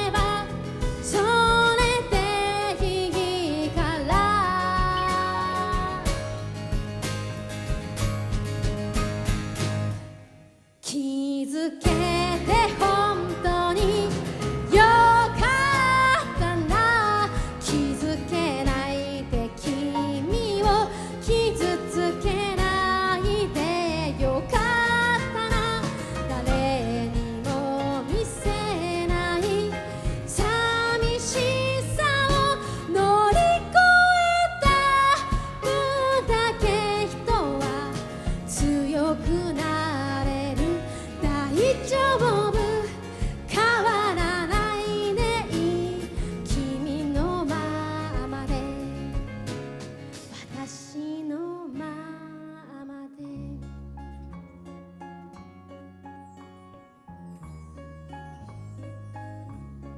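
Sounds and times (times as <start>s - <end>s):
woman singing pop ballad: 0.0s - 6.4s, 10.8s - 53.7s
band with piano bass and drums: 0.0s - 10.6s, 11.8s - 50.9s, 53.4s - 59.9s.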